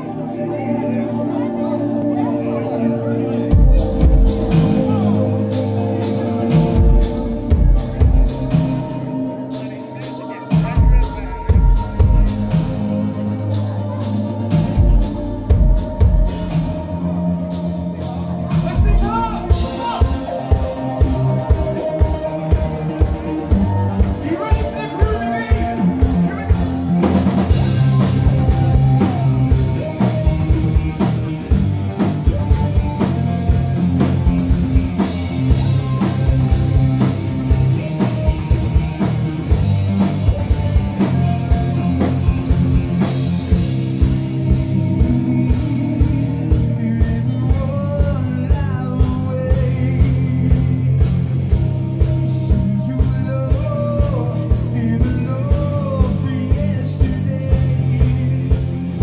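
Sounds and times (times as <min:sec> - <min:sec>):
live rock band playing: 0:00.0 - 0:59.0
drum kit beat: 0:03.5 - 0:59.0.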